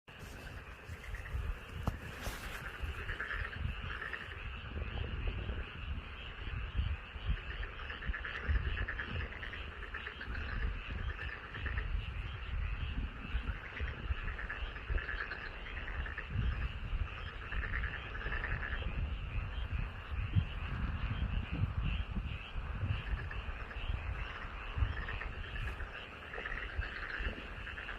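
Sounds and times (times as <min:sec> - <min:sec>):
frogs calling in pulsed trills: 0:00.1 - 0:27.9.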